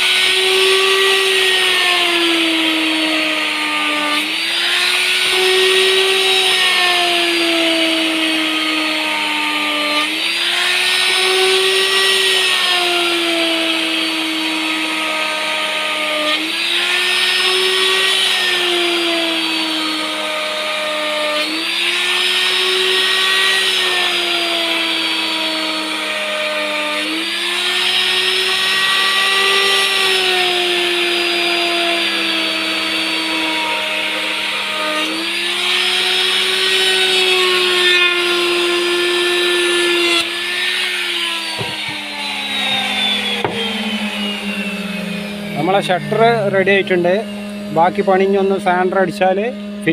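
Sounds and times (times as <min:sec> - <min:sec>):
electric wood router whining: 0:00.0 - 0:49.9.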